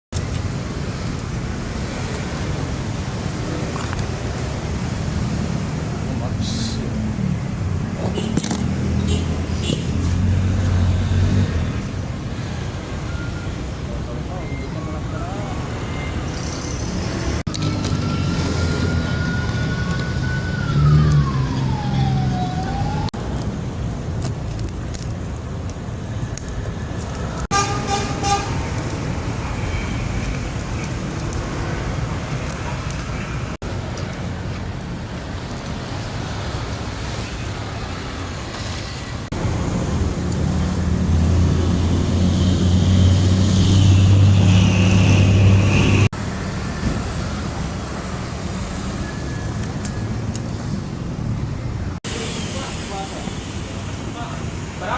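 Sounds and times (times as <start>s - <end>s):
road traffic: 0.1s - 54.9s.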